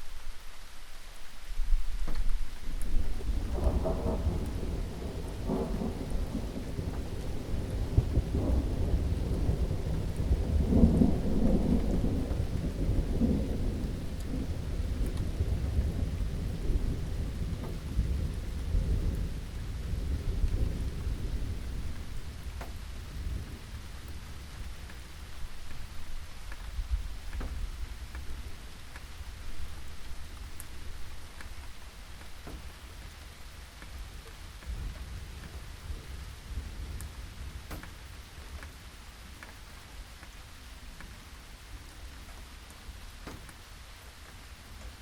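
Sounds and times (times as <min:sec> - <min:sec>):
steady rain: 0:00.0 - 0:45.0
thunder rumbling: 0:01.6 - 0:43.6.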